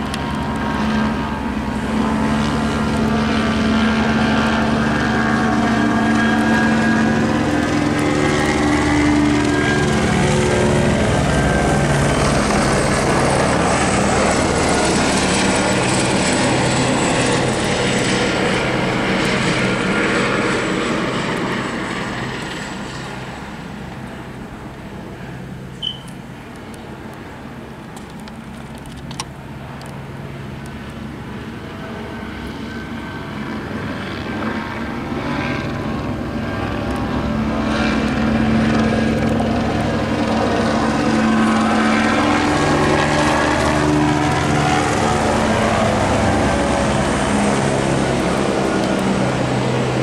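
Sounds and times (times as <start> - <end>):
helicopter rotor and engine: 0.0 - 50.0.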